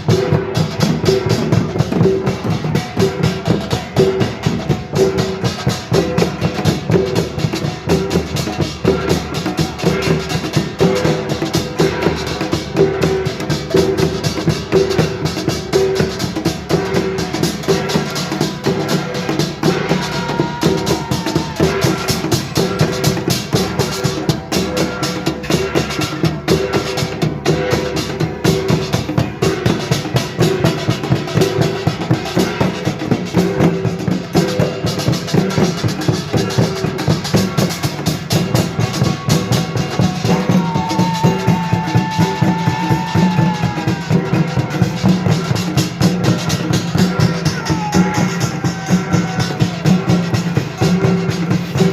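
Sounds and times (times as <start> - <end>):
percussion band playing fast rhythm: 0.0 - 51.9.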